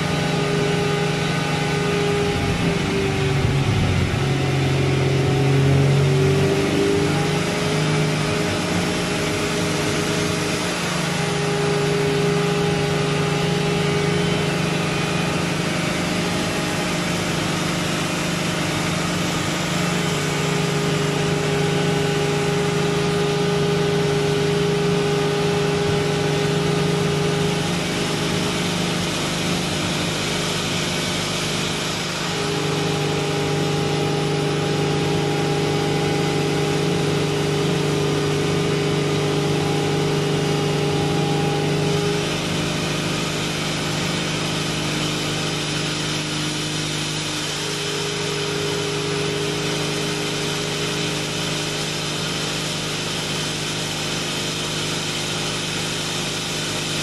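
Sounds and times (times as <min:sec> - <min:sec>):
car engine on dyno: 0:00.0 - 0:57.0.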